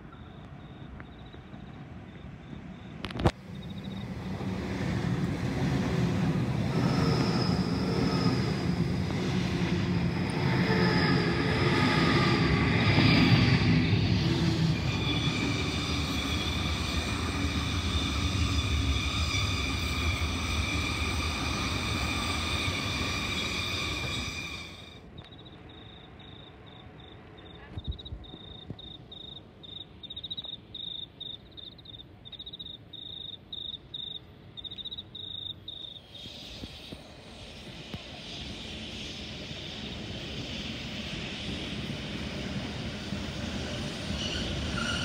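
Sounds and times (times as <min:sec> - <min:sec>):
crickets chirping: 0:00.0 - 0:04.4, 0:06.5 - 0:45.0
train wheels rumbling on rails: 0:00.0 - 0:30.6, 0:34.6 - 0:45.0.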